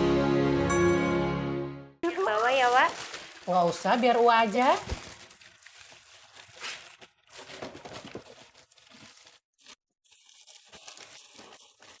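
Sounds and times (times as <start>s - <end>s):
faint rustling and crinkling: 2.1s - 12.0s.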